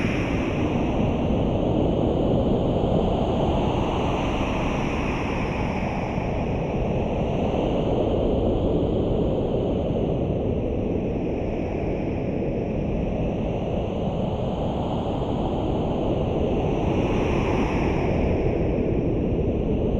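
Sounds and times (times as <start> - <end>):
rushing wind: 0.0 - 19.9.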